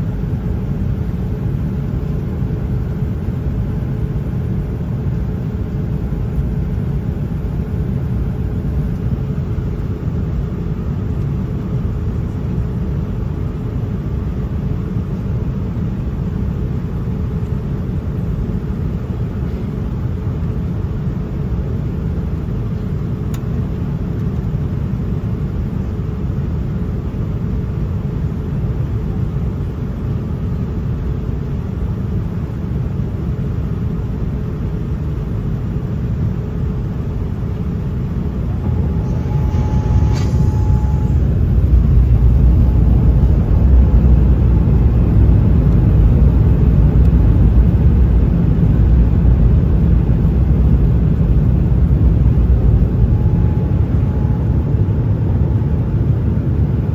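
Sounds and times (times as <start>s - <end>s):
airliner engine and airflow rumble: 0.0s - 56.9s
faint steady hum: 0.0s - 56.9s.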